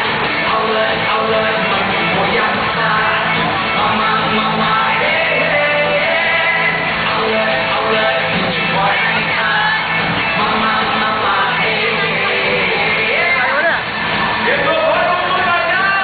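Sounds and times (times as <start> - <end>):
person singing: 0.0 - 13.8
live pop band playing: 0.0 - 16.0.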